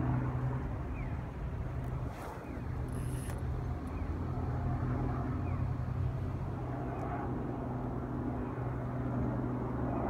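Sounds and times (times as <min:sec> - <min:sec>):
low mechanical hum: 0:00.0 - 0:10.0
outdoor noise: 0:00.0 - 0:10.0.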